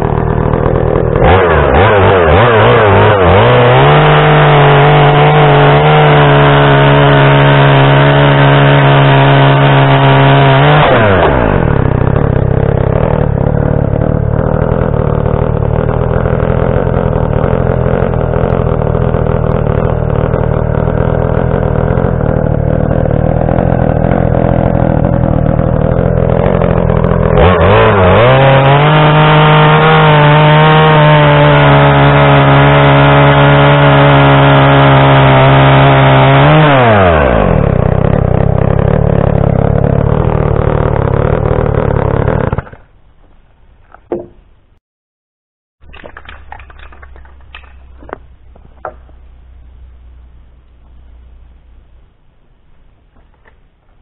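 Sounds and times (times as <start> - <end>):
chainsaw cutting wood: 0.0 - 43.0, 45.8 - 51.0.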